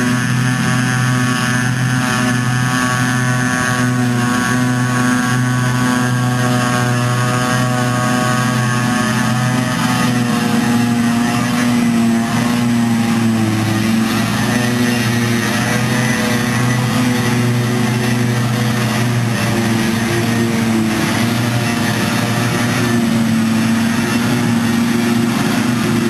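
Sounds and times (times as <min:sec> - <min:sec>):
forage harvester engine droning: 0:00.0 - 0:26.0
tractor engine: 0:00.0 - 0:26.0.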